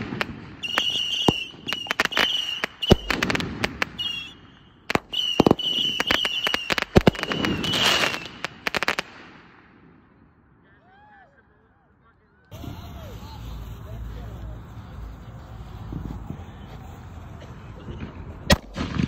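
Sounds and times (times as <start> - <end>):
fireworks whistling: 0.0 - 9.4, 12.5 - 19.0
fireworks cracking: 0.0 - 10.0, 12.5 - 19.0
fireworks booming: 0.0 - 10.2, 12.5 - 19.0.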